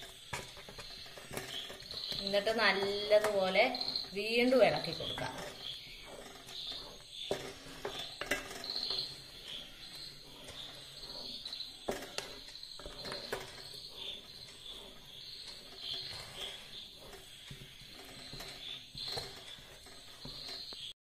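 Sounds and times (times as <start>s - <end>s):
crickets chirping: 0.0s - 20.9s
spoon stirring thick mixture: 0.0s - 21.0s.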